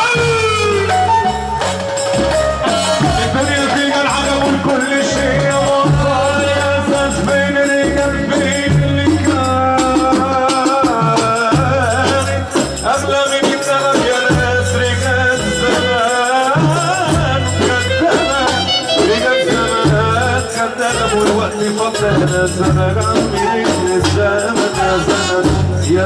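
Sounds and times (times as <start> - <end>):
melodic lead line: 0.0 - 25.7
heavy bass beat: 0.0 - 26.0
shaker percussion: 0.0 - 26.0.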